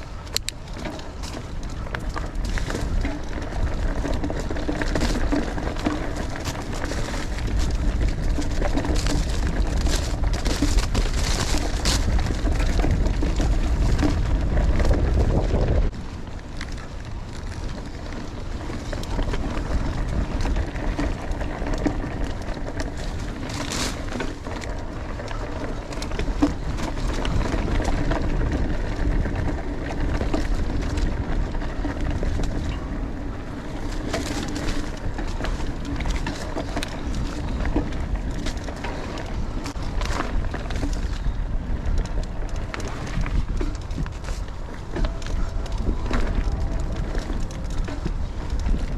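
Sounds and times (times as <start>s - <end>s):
bike clicks and rattles: 0.0s - 48.9s
bike tyre noise on dirt: 0.0s - 48.9s
wind rumble on microphone: 0.0s - 48.9s.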